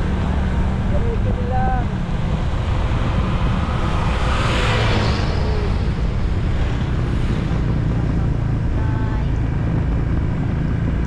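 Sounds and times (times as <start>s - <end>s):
scooter engine drone: 0.0s - 11.0s
wind on microphone: 0.0s - 11.0s.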